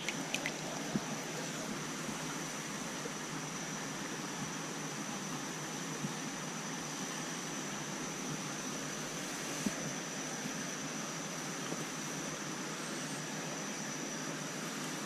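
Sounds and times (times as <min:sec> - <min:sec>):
creek water running over rocks: 0:00.0 - 0:15.0
faint high whine: 0:00.0 - 0:15.0.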